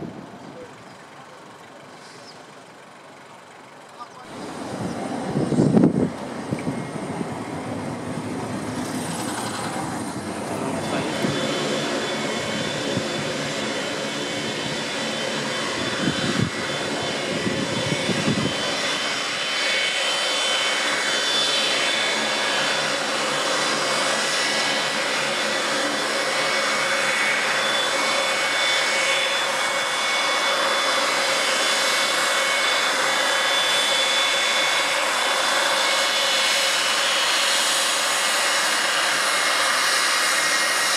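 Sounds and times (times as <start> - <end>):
jet engines whining: 4.0 - 40.9.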